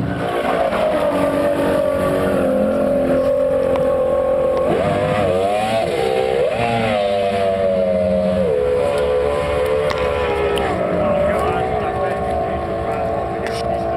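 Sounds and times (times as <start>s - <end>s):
motorboat engine running hard: 0.0s - 13.9s.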